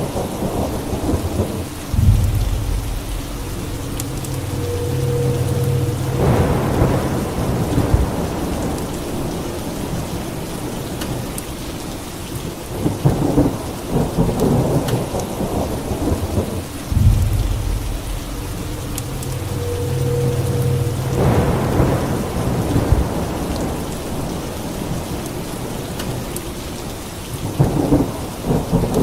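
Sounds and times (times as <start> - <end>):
crackling thunder peals: 0.0 - 11.4, 12.7 - 26.4
steady rain: 0.0 - 29.0
thunder rolling: 0.1 - 10.8, 13.0 - 25.7.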